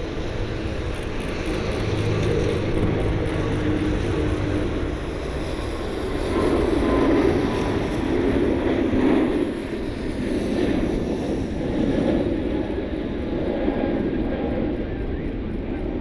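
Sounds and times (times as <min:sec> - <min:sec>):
jet engines at takeoff thrust: 0:00.0 - 0:16.0.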